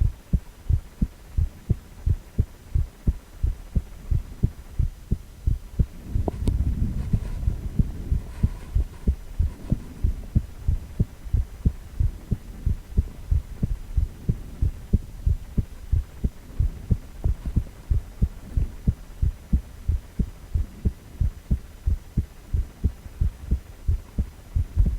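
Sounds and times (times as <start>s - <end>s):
heartbeat: 0.0s - 24.9s
low rumble: 0.0s - 24.9s.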